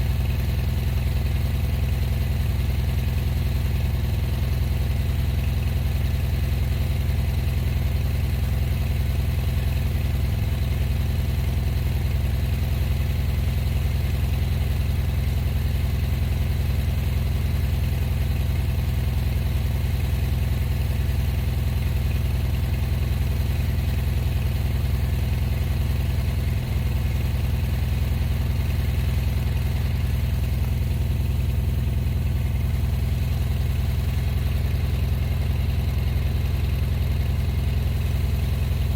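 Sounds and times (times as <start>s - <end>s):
gasoline engine droning: 0.0s - 38.9s.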